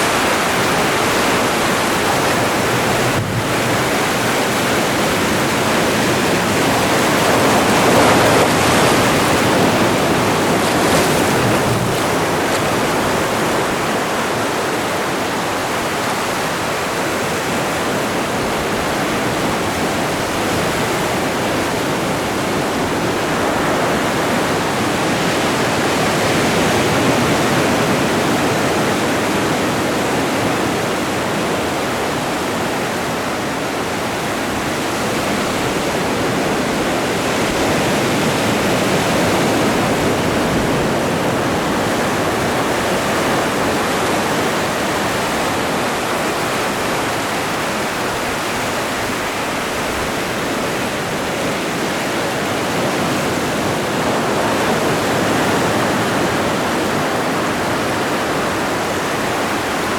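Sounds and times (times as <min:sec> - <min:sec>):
ocean surf washing on shore: 0:00.0 - 0:59.9.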